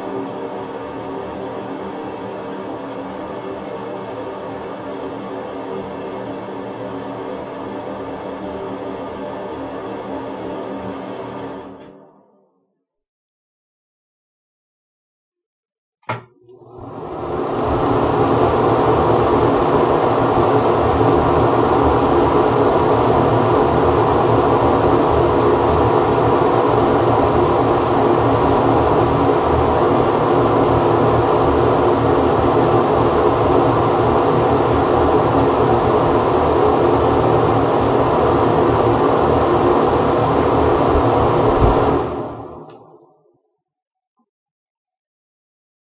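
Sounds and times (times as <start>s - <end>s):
ventilation fan whirring: 0.0s - 11.9s, 16.0s - 42.8s.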